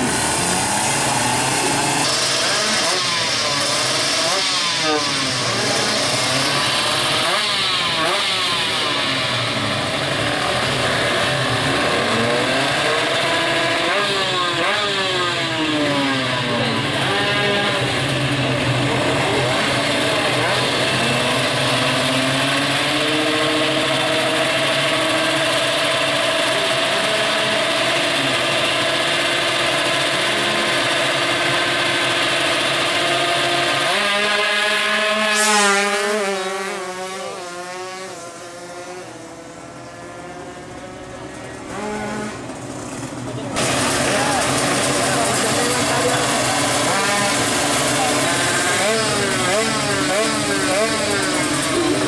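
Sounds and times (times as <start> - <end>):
two-stroke engines revving: 0.0 - 52.0.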